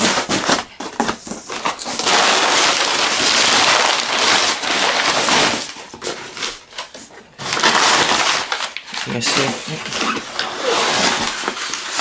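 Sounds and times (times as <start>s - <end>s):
cardboard box being ripped open: 0.0s - 6.5s, 7.4s - 8.8s, 9.4s - 12.0s.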